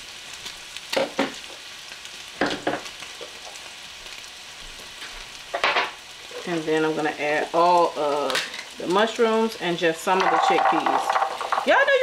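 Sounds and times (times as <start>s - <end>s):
food sizzling in skillets: 0.0s - 12.0s.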